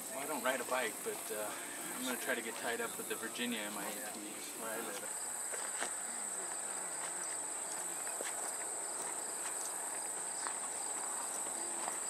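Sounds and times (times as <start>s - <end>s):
faint footsteps on pavement: 0.0s - 12.0s.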